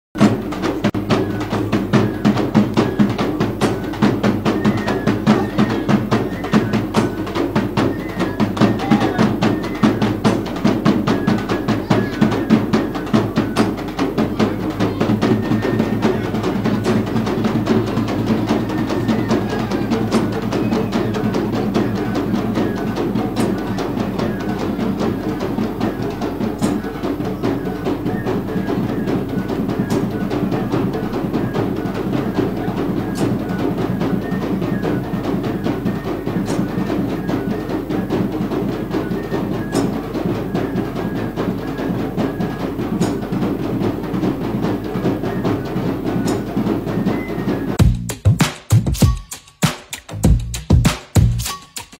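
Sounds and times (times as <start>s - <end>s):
hand drums playing fast rhythm: 0.2s - 51.9s.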